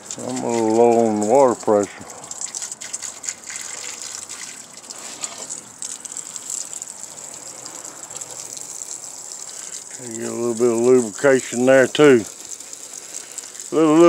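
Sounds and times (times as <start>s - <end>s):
hose spraying water on metal: 0.0s - 14.0s.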